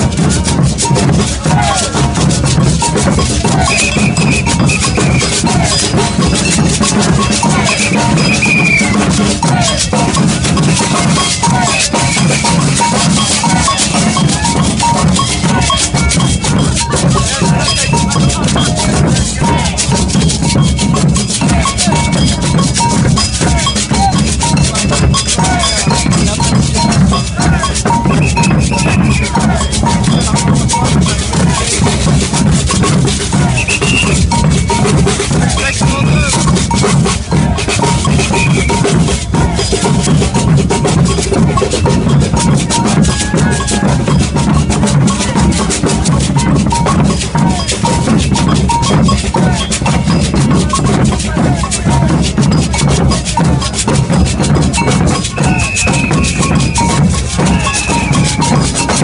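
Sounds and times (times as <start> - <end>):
bass drums pounding: 0.0 - 59.0
gourd shakers: 0.0 - 59.0
high held notes: 0.0 - 59.0
snare drums: 0.0 - 59.0.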